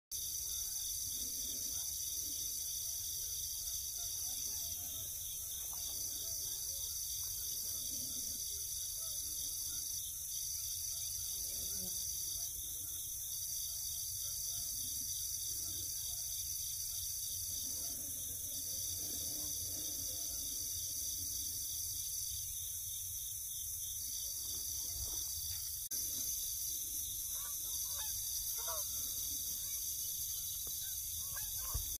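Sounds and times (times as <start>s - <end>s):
insect chorus trilling: 0.2s - 32.0s.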